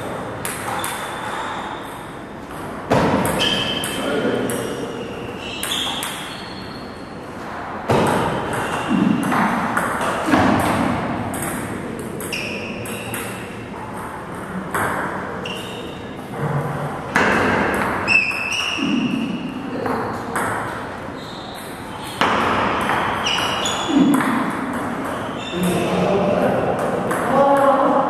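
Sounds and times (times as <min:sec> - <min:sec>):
table tennis ball pinging: 0:00.0 - 0:06.9, 0:07.9 - 0:16.3, 0:17.1 - 0:27.8.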